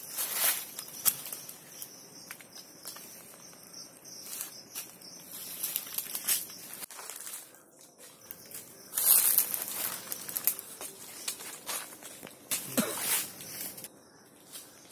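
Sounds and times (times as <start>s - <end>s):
dry leaves crunching: 0.0s - 14.9s
leaves and branches rustling: 0.0s - 14.9s.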